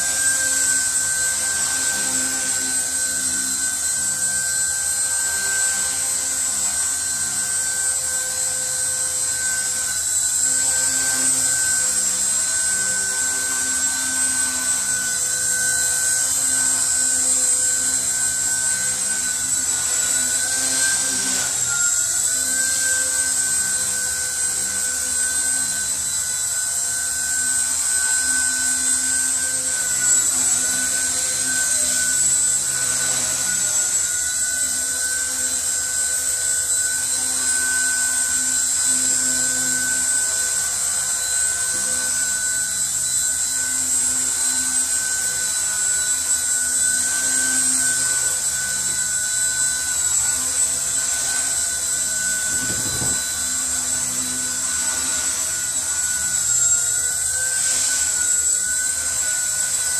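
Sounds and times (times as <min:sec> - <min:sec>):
rc helicopter rotor whine: 0:00.0 - 0:59.9.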